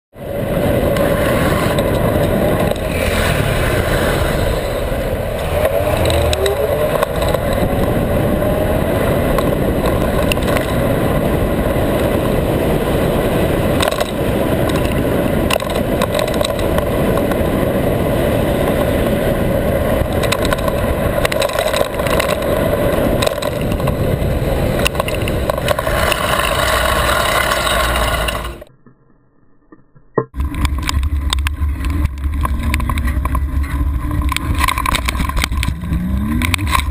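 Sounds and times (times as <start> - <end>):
wind and road noise: 0.1 - 28.9, 29.7 - 36.9
scooter engine running: 0.2 - 28.7, 30.4 - 36.9.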